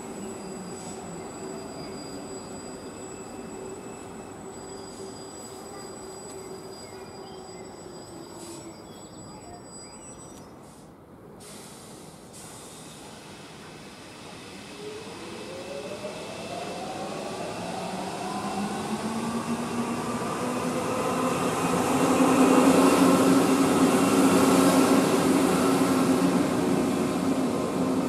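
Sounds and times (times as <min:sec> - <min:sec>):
metro train passing: 0:00.0 - 0:28.0.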